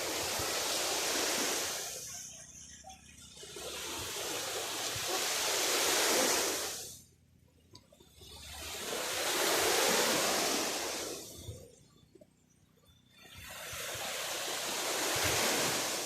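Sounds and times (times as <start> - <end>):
ocean waves breaking on shore: 0.0 - 7.1, 8.1 - 11.7, 13.2 - 16.0.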